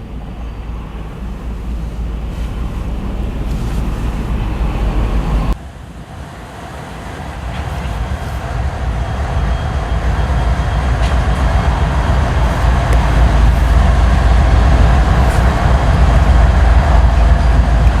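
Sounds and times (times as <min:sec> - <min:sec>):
freight train rumbling: 0:00.0 - 0:18.0
wind buffeting microphone: 0:00.0 - 0:18.0.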